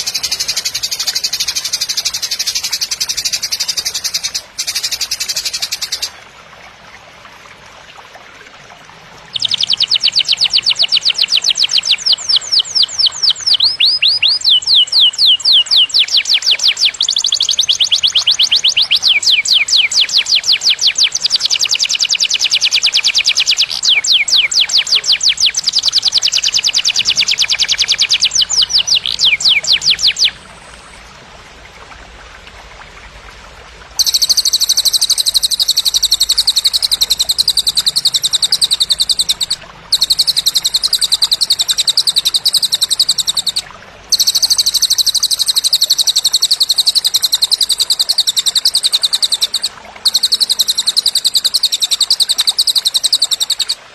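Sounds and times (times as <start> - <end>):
songbird singing fast trills: 0.0 - 6.2, 9.3 - 30.8, 34.0 - 53.8.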